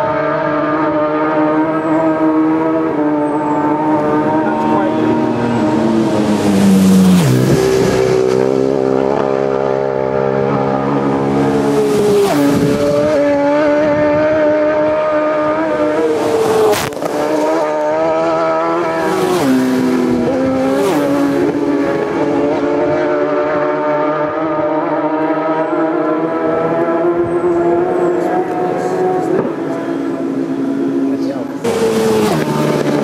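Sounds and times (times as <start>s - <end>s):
motorcycles passing at speed: 0.0s - 33.0s.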